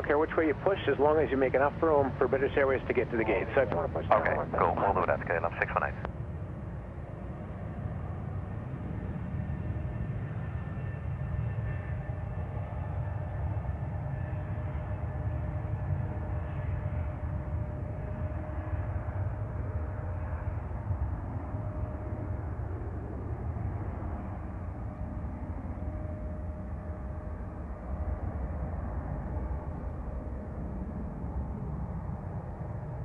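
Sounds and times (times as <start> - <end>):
faint jet whine: 0.0 - 33.0
jet engine rumble: 0.0 - 33.0.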